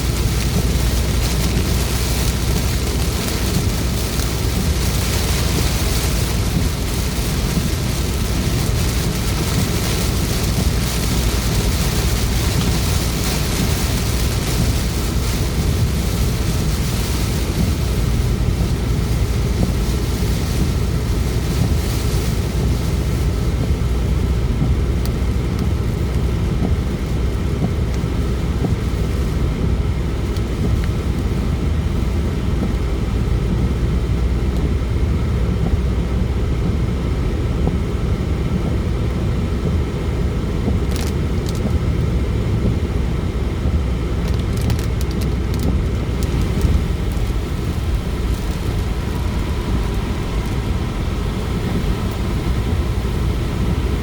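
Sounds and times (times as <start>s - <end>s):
rain and wind on car: 0.0s - 54.0s
tyres and engine drone: 0.0s - 54.0s.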